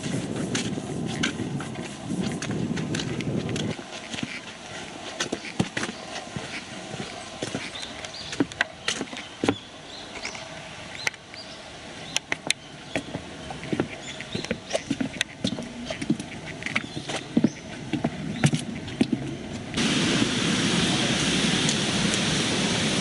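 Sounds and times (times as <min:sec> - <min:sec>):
footsteps on trail: 0:00.0 - 0:19.9.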